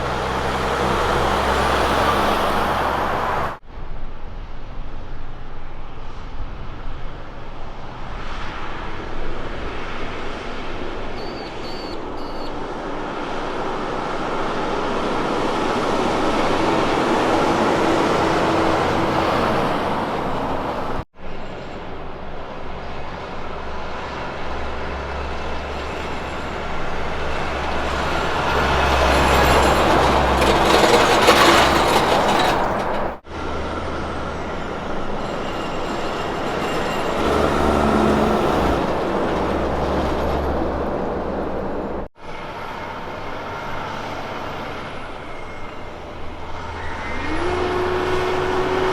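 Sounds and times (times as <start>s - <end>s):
trucks driving past: 0.0s - 48.9s.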